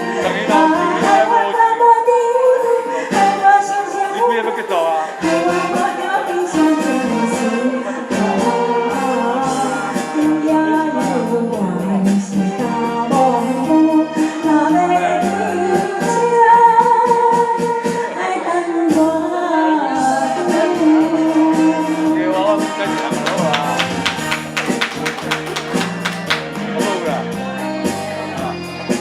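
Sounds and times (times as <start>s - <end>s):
ballad backing music: 0.0s - 29.0s.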